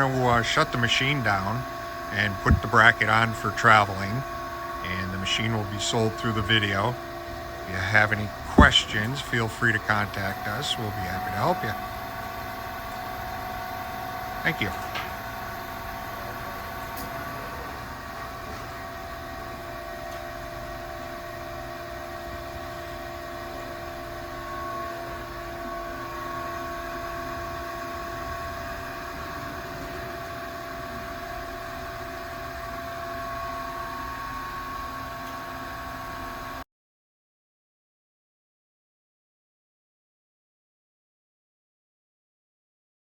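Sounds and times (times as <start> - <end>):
machine tone: 0.0 - 36.2
grinder machine hum: 0.0 - 36.6.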